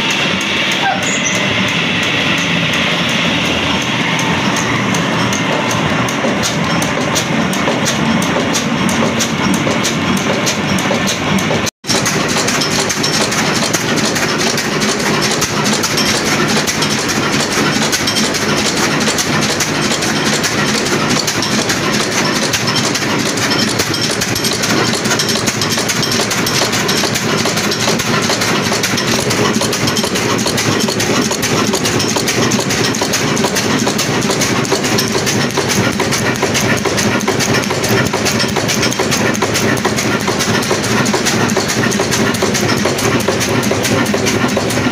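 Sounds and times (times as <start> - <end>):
diesel engine clattering: 0.0 - 44.9.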